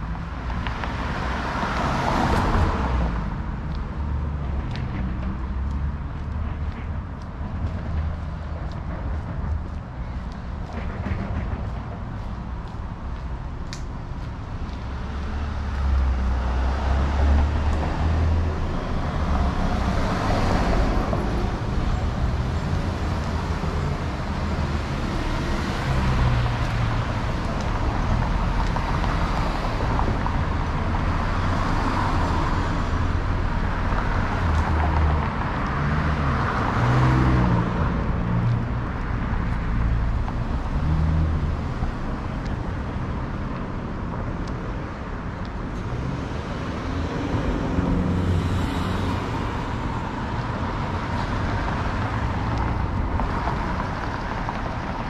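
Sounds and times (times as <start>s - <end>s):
cars passing by: 0.0s - 55.0s.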